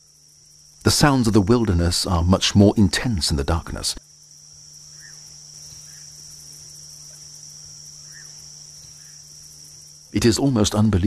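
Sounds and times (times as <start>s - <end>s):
faint short insect calls: 0.0s - 11.0s
insects trilling: 0.0s - 11.0s
low steady hum: 0.0s - 11.0s.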